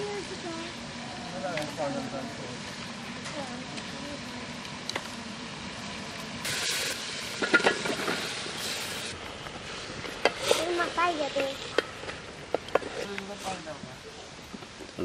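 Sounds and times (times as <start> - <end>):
food sizzling in hot oil: 0.0 - 13.8.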